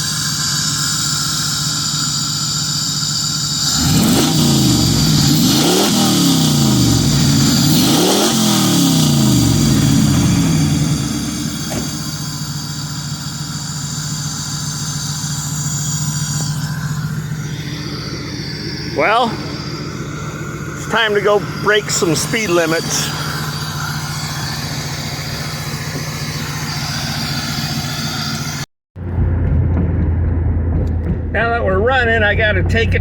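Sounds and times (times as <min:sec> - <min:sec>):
car engine revving and idling: 0:00.0 - 0:33.0.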